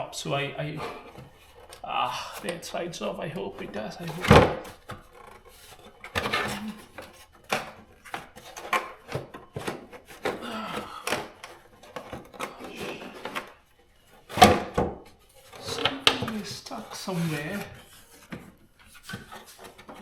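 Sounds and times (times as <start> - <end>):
plastic engine cover scraping and knocking: 0.0 - 20.0
plastic clatter: 0.7 - 20.0.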